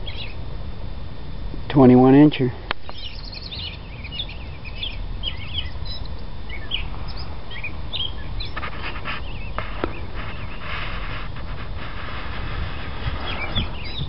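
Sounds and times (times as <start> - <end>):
songbirds chirping: 0.0 - 0.5, 1.7 - 11.5, 12.4 - 14.0
steady low rumble: 0.0 - 14.0.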